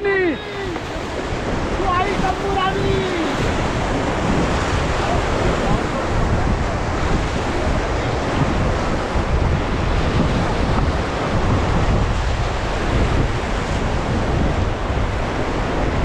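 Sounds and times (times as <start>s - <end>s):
river water rushing: 0.0s - 16.0s
wind buffeting microphone: 0.0s - 16.0s.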